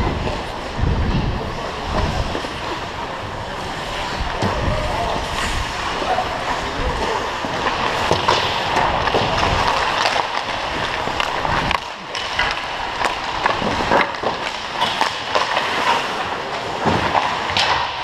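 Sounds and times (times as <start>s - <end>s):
hockey sticks and pucks clacking: 0.0s - 18.0s
skate blades scraping ice: 0.0s - 18.0s.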